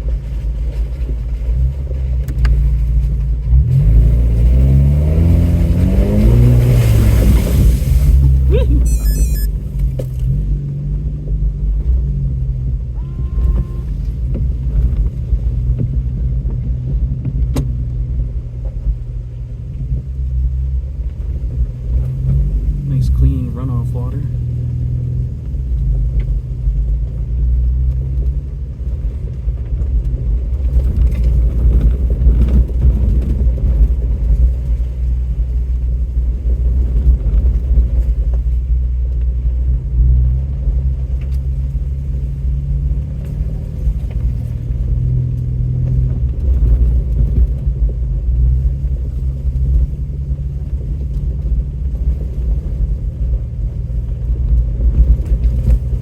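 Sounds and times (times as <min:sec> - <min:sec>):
vehicle engine low rumble: 0:00.0 - 0:56.0.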